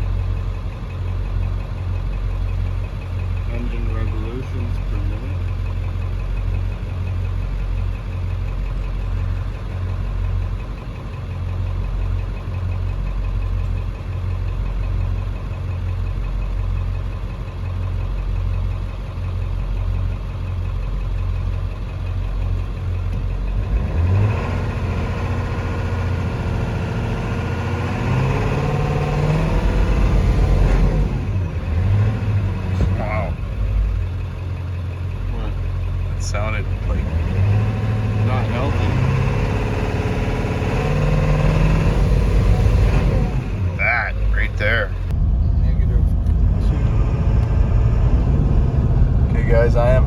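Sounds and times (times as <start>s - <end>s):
diesel truck engine idling and revving: 0.0s - 50.0s.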